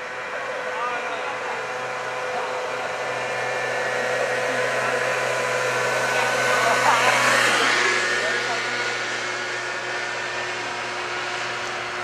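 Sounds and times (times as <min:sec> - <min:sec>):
motor scooter engine: 0:00.0 - 0:12.0.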